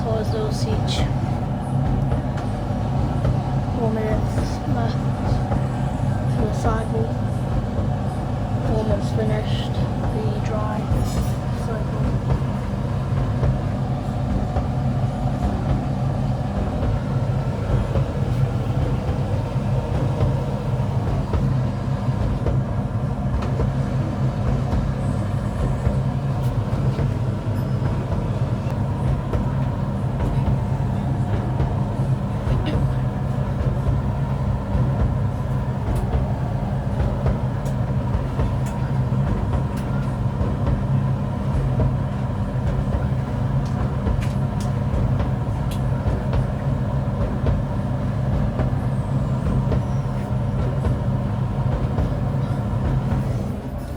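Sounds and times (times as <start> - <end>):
tumble dryer humming: 0.0 - 53.9.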